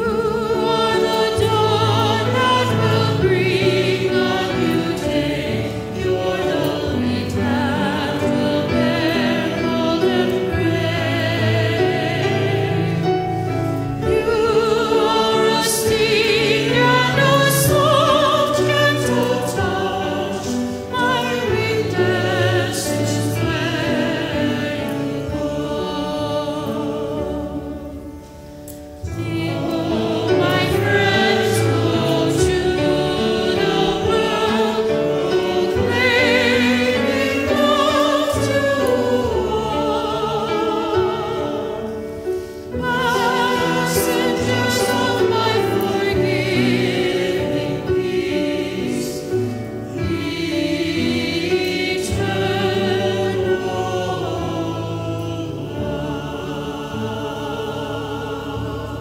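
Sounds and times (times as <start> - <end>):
church choir singing a hymn: 0.0 - 59.0
piano accompaniment: 0.0 - 59.0.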